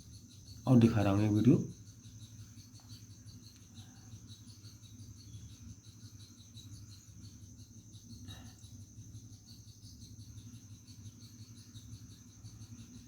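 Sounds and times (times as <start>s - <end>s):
faint crickets chirping: 0.0s - 13.0s.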